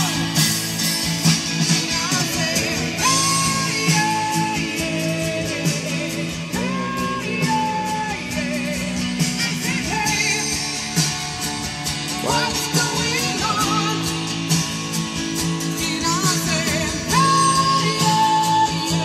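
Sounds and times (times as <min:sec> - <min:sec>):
song with singing and beat: 0:00.0 - 0:19.0.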